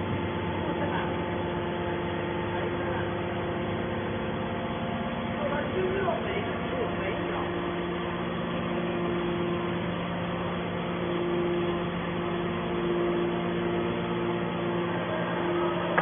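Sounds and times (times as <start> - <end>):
baler motor humming: 0.0 - 16.0.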